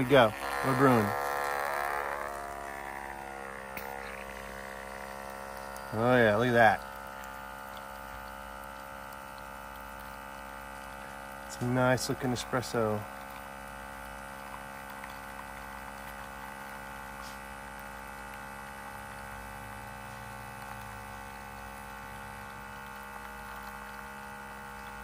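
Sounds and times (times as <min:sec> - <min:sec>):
espresso machine pump humming: 0:00.0 - 0:25.0.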